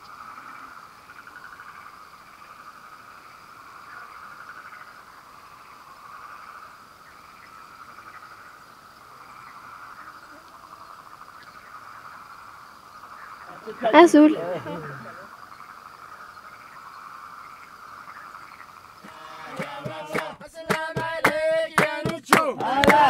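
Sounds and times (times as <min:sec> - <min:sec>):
chorus of frogs trilling: 0:00.0 - 0:20.6.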